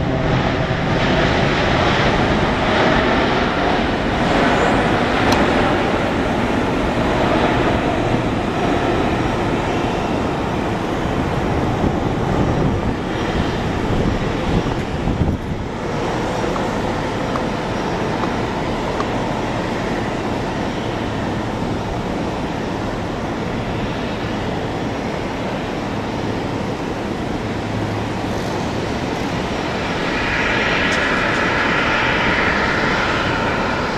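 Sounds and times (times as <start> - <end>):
distant jet engines: 0.0 - 33.9.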